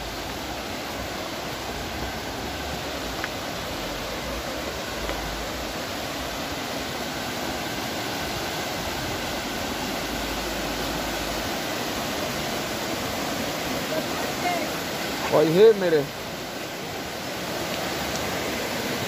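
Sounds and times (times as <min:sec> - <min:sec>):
flooded river rushing: 0:00.0 - 0:19.0.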